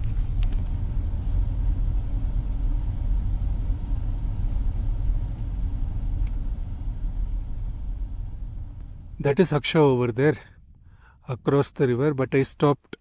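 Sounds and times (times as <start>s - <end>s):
car engine and road noise: 0.0s - 12.1s.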